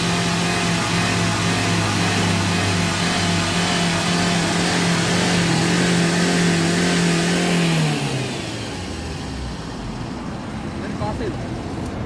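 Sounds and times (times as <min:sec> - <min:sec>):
car engine at raised revs: 0:00.0 - 0:12.0.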